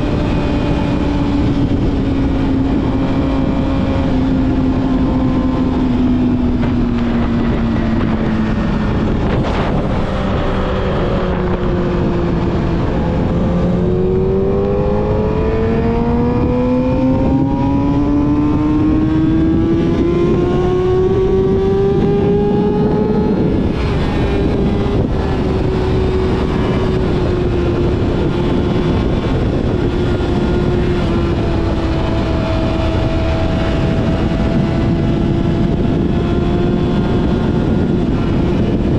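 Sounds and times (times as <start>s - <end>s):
motorcycle engine accelerating: 0.0s - 38.9s
wind noise: 0.0s - 38.9s.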